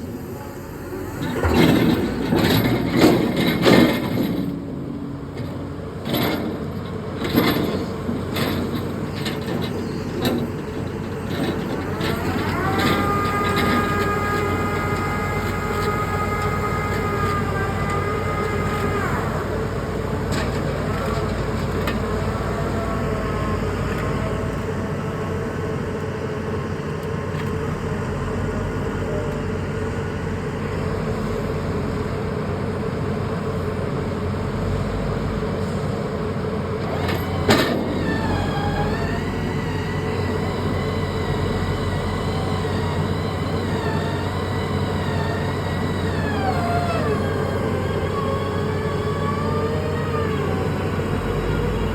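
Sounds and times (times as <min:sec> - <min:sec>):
excavator diesel engine and hydraulics: 0:00.0 - 0:51.9.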